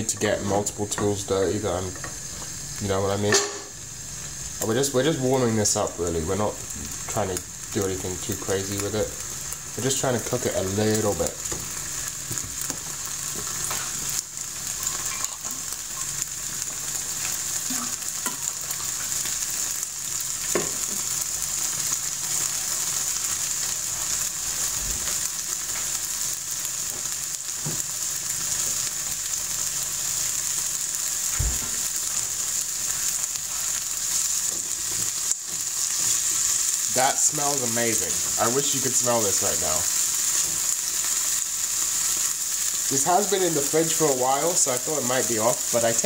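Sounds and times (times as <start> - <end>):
peppers sizzling in pan: 0.0 - 46.0.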